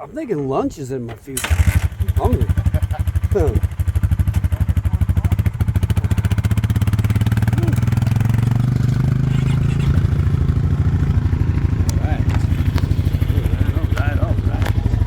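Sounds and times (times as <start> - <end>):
vehicle engine running: 1.4 - 15.0.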